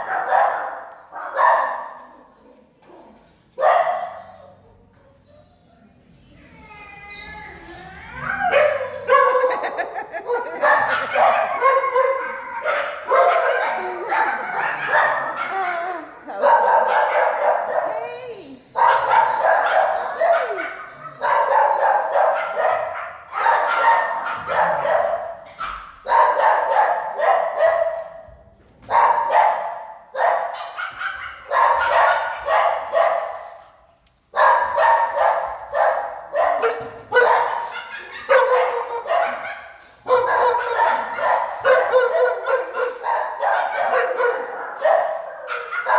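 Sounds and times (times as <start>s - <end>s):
dogs barking loudly: 0.0s - 2.2s, 3.1s - 4.6s, 8.2s - 28.2s, 28.8s - 45.9s.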